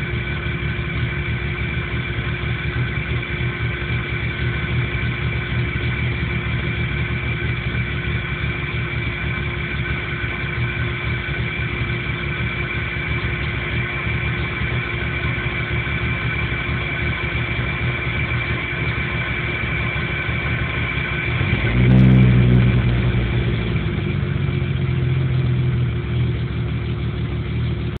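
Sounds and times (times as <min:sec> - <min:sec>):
engine rough idle: 0:00.0 - 0:28.0.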